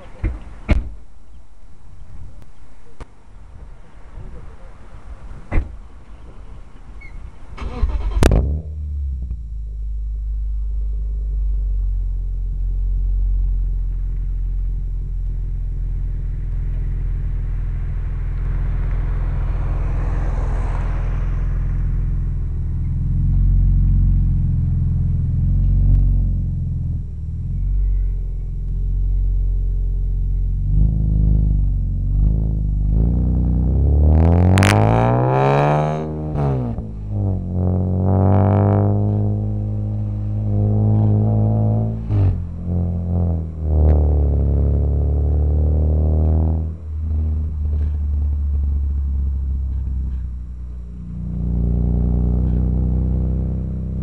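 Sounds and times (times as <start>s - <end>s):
car engine idling deeply: 0.0s - 54.0s
car engine revving: 7.3s - 54.0s.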